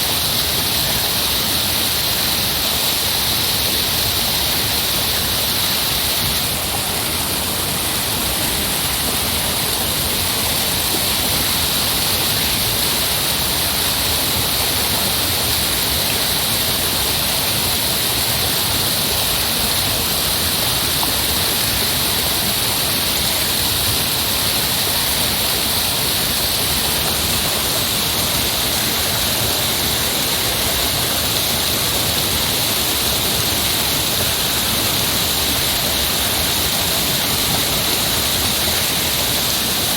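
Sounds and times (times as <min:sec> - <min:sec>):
heavy rushing water: 0:00.0 - 0:39.9.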